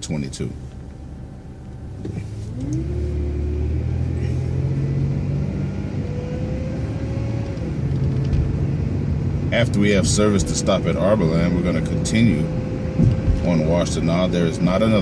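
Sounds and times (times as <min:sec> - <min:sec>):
bus engine with rising whine: 0:00.0 - 0:15.0.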